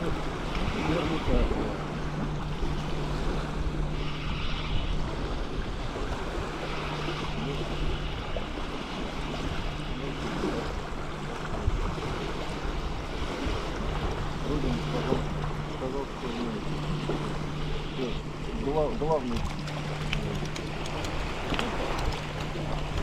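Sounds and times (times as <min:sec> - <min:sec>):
gusty wind buffeting microphone: 0:00.0 - 0:23.0
water lapping at bank: 0:00.0 - 0:23.0.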